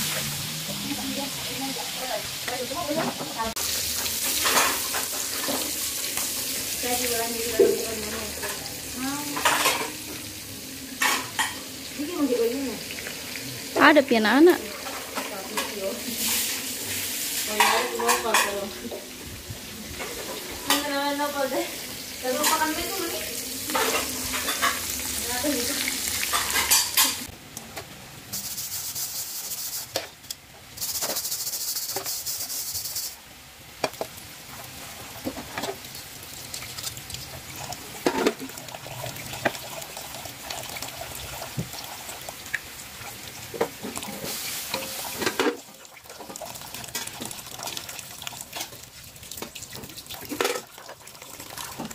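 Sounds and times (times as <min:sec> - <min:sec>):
food sizzling in a pan: 0:00.0 - 0:27.3, 0:28.0 - 0:51.9.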